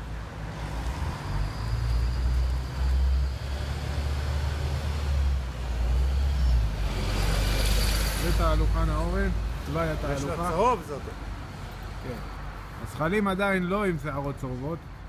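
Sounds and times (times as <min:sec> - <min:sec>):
bus and cars passing: 0:00.0 - 0:15.0.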